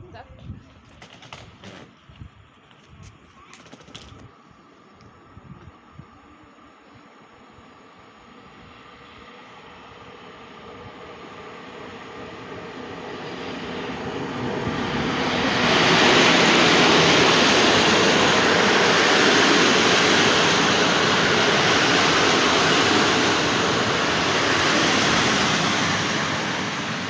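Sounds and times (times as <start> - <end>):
passenger train passing: 4.4 - 27.0.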